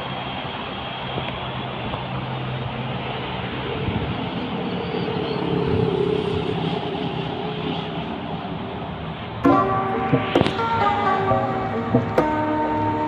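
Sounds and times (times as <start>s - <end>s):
large vehicle rumbling: 0.0s - 13.0s.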